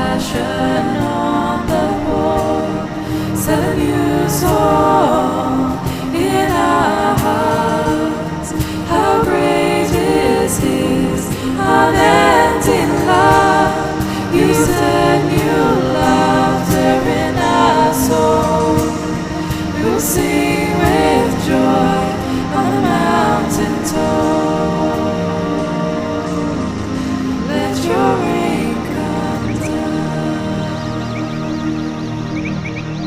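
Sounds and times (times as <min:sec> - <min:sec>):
layered singing voices: 0:00.0 - 0:33.0.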